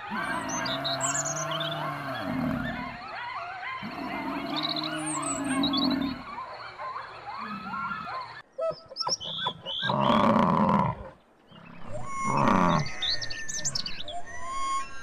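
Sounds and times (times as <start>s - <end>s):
harsh animal calls: 0.0s - 14.1s
high chirping calls: 0.1s - 3.1s, 3.8s - 10.2s, 11.4s - 15.0s.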